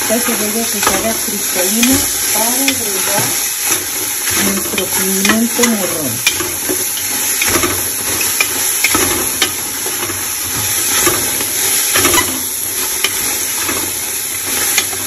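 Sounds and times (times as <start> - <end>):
onions sizzling in a pot: 0.0 - 15.0.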